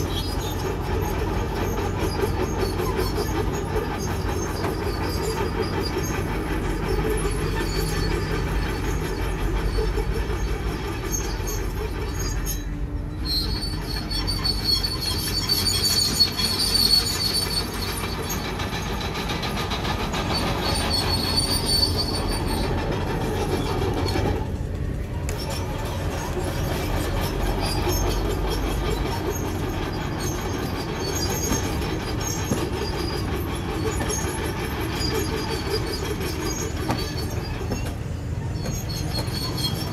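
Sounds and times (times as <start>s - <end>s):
bulldozer engine rumble: 0.0s - 39.9s
steel tracks squealing and clattering: 0.0s - 39.9s.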